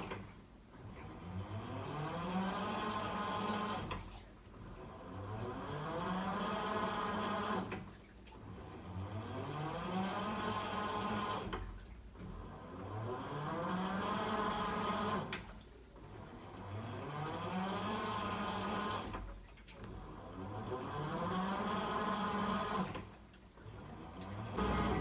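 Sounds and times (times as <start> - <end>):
washing machine motor humming: 0.0 - 25.0.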